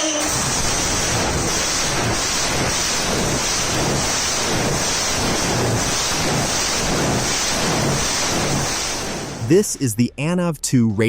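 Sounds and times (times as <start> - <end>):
radial aircraft engine running: 0.0 - 9.5.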